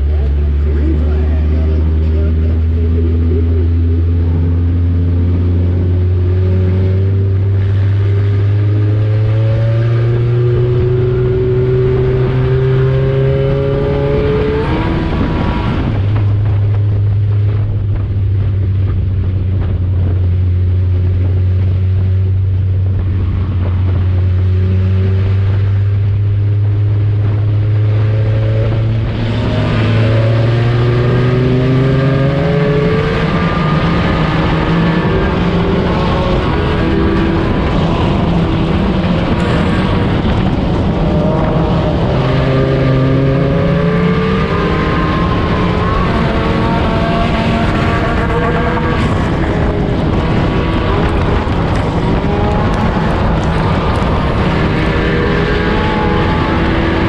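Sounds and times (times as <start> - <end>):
race car engine from cabin: 0.0 - 57.0.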